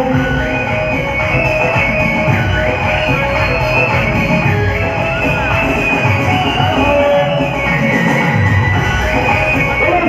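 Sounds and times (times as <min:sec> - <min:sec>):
devotional music over loudspeakers: 0:00.0 - 0:10.0.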